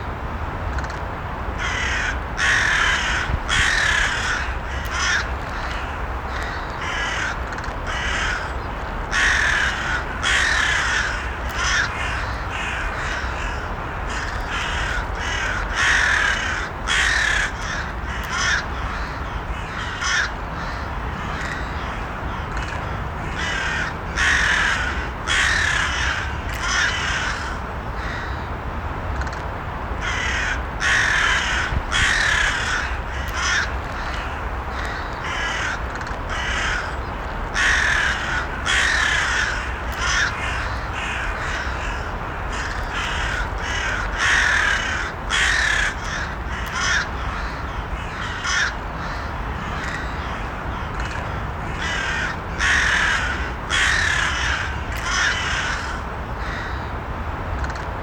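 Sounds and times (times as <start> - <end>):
crows cawing: 1.6 - 28.5, 30.0 - 56.9.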